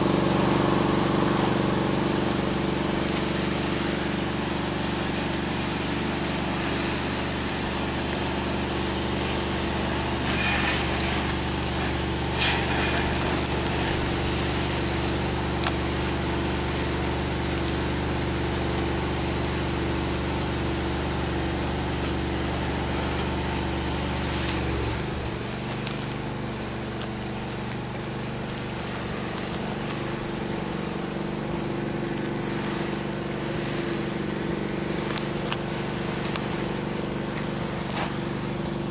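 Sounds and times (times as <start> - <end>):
engine-driven pump running: 0.0 - 38.9
spray hissing: 0.2 - 38.9.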